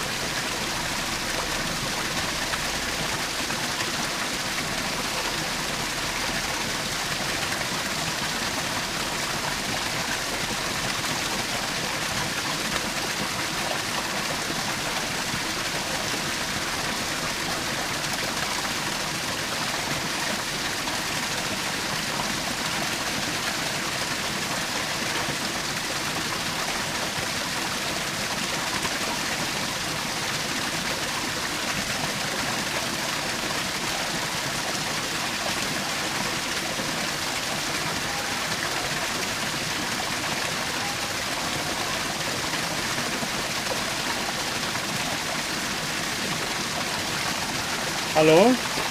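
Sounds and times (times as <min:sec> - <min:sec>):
waterfall splashing and rushing: 0:00.0 - 0:48.9.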